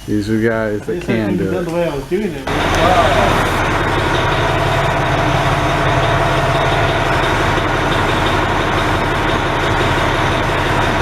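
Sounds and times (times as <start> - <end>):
machinery drone: 0.0 - 11.0
low hum: 1.0 - 11.0.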